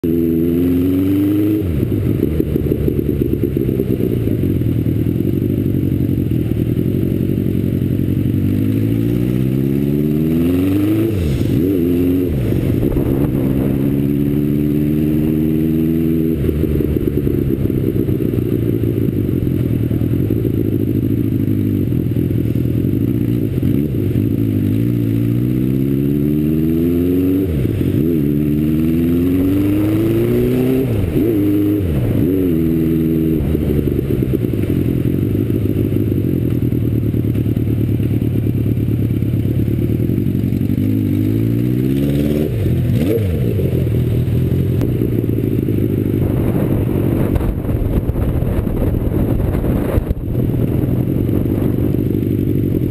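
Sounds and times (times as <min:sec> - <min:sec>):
motorcycle engine shifting gears: 0:00.0 - 0:52.9.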